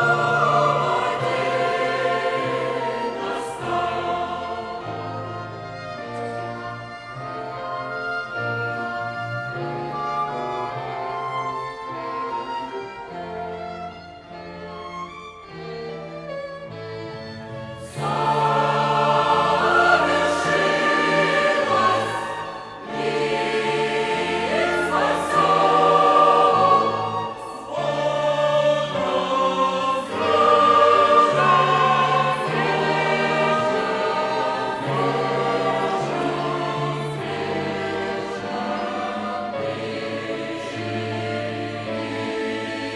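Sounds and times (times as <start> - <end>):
choir singing: 0.0 - 42.9
violin ensemble: 0.0 - 42.9.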